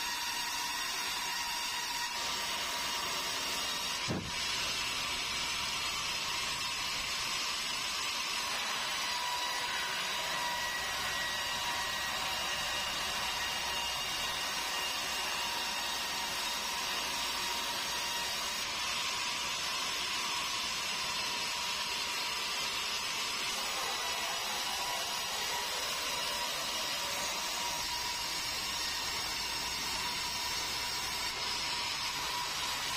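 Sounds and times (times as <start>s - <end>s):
band saw sawing timber: 0.0s - 32.9s.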